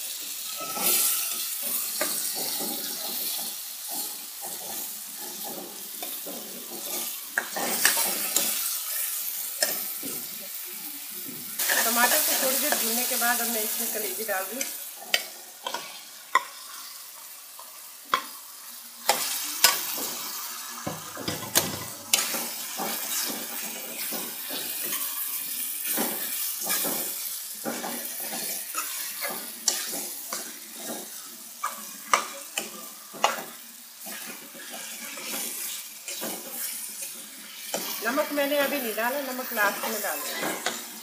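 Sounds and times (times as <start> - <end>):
meat sizzling in a pan: 0.0 - 41.0
metal spatula scraping a pan: 0.2 - 9.9, 11.6 - 18.4, 19.0 - 41.0.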